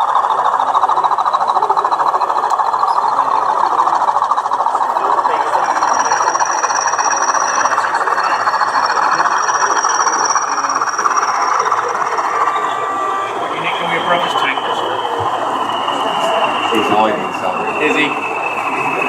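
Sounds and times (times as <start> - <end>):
model train rattling on track: 0.0 - 19.0
thin high whine: 0.0 - 19.0.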